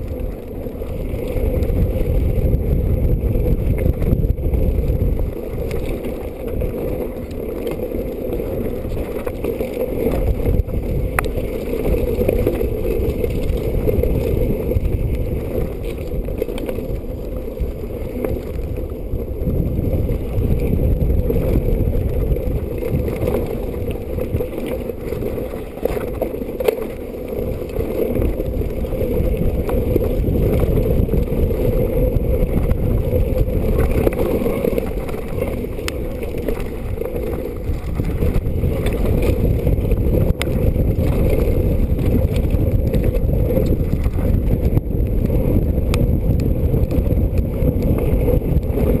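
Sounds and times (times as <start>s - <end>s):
mountain bike rattling on dirt trail: 0.0s - 49.0s
wind buffeting microphone: 0.0s - 49.0s.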